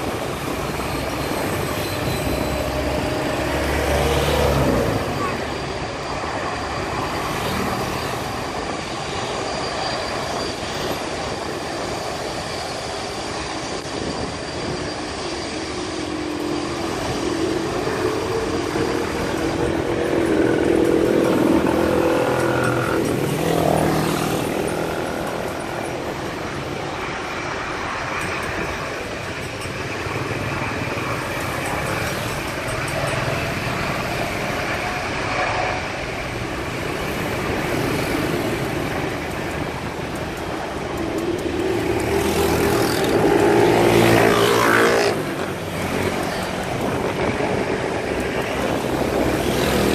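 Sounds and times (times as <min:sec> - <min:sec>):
jet engines taxiing: 0:00.0 - 0:49.9
road traffic: 0:00.0 - 0:49.9.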